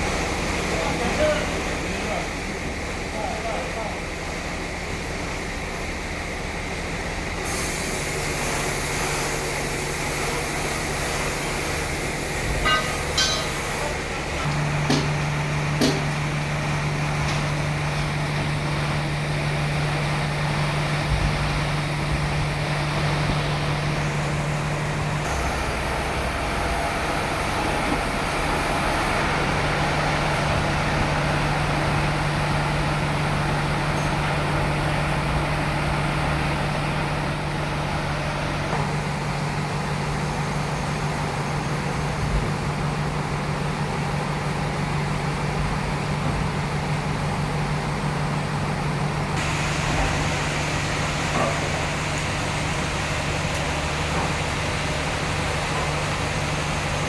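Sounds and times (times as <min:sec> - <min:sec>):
sawmill humming: 0:03.8 - 0:45.3, 0:47.7 - 0:57.0.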